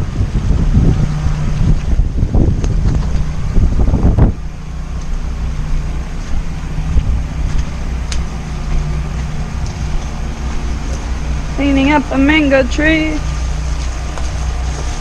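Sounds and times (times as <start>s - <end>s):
generators humming: 0.0s - 15.0s.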